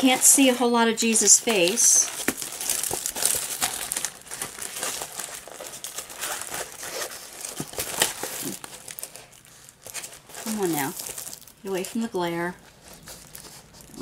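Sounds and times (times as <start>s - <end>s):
plastic film crinkling: 0.0s - 14.0s.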